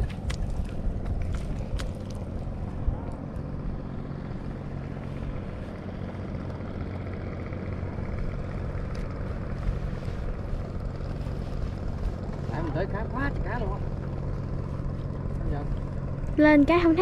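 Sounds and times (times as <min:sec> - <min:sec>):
boat motor droning: 0:00.0 - 0:17.0.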